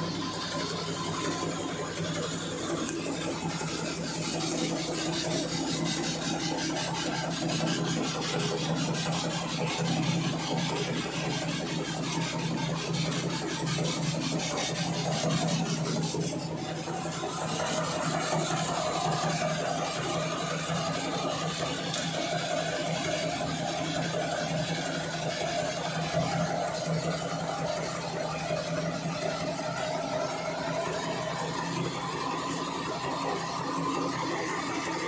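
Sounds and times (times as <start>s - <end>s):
machine motor and shaking sieves: 0.0s - 35.0s.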